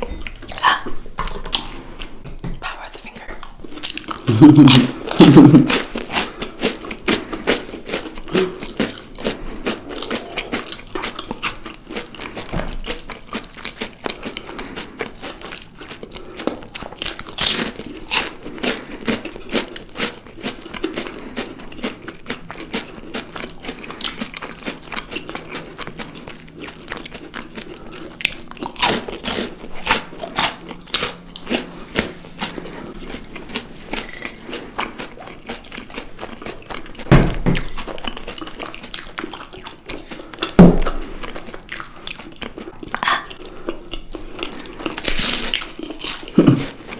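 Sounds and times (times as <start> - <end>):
person chewing crunchy food: 0.0 - 2.2, 3.1 - 46.9.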